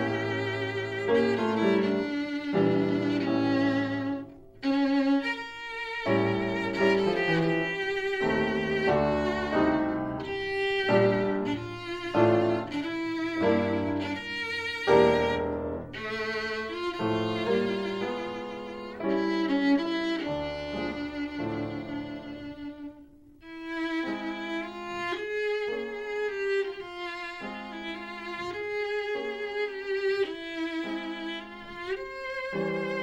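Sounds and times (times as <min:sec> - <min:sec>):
lower musical accompaniment: 0:00.0 - 0:33.0
violin melody with vibrato: 0:00.0 - 0:33.0.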